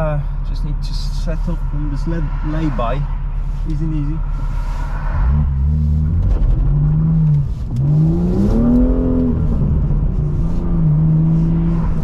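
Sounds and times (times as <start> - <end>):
car engine accelerating and shifting: 0.0 - 12.0.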